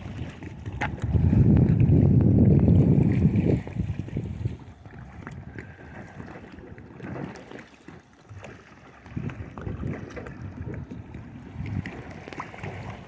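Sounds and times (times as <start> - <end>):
paddle splashing water: 0.0 - 13.0
wind buffeting microphone: 0.0 - 13.0.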